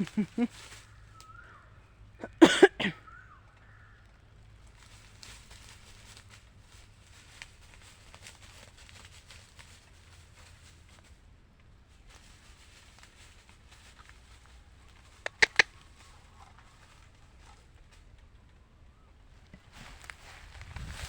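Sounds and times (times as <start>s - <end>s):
rustling in dry leaves: 0.0s - 2.1s, 3.0s - 21.0s.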